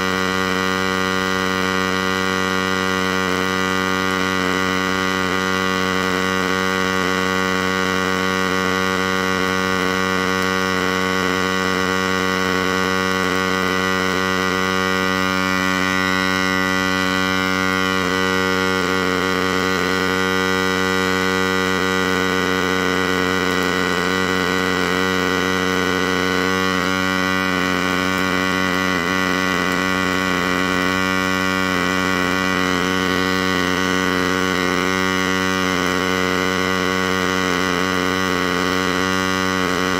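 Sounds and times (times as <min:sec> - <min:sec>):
welding arc buzzing: 0:00.0 - 0:39.9.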